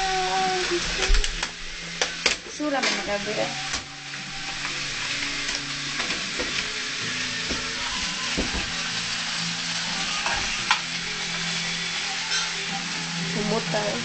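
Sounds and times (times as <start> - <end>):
sausages sizzling in a pan: 0.0 - 14.0.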